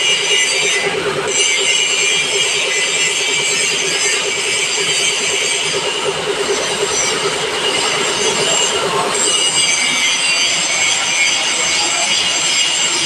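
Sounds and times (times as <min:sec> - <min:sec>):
fast pulsing machine noise: 0:00.0 - 0:13.0
milling machine metallic squeal: 0:00.0 - 0:13.0.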